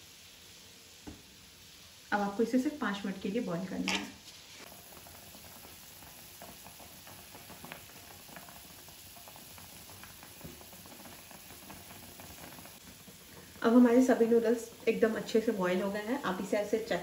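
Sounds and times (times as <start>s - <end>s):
water bubbling in a pan: 0.0s - 17.0s.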